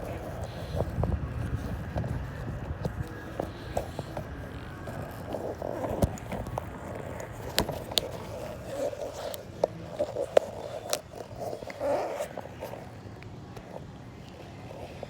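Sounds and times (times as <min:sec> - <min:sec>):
scraping and rustling: 0:00.0 - 0:15.0.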